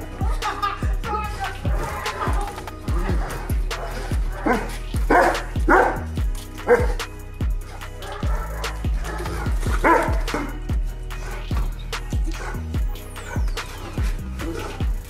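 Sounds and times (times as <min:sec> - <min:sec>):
music with sliding deep bass: 0:00.0 - 0:15.0.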